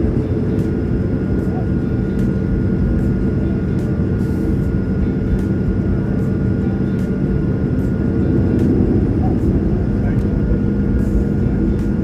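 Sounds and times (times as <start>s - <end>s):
faint constant whine: 0.0s - 12.0s
jet airliner cabin drone: 0.0s - 12.0s.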